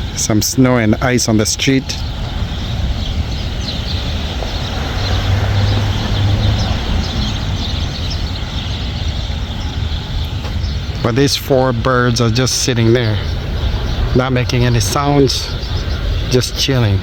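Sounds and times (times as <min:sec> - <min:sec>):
road traffic noise: 0:00.0 - 0:17.0
vehicle passing: 0:01.0 - 0:17.0.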